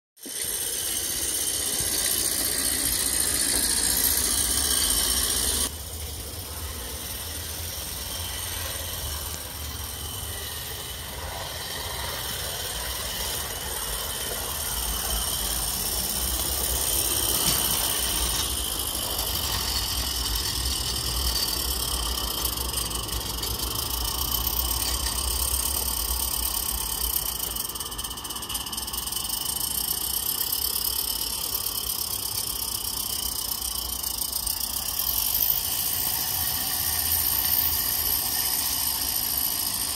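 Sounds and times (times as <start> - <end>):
steam locomotive hissing: 0.2 - 39.9.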